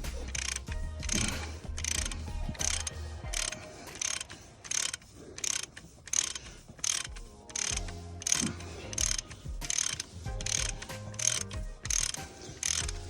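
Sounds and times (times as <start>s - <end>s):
ratchet wrench clicking: 0.1s - 13.0s.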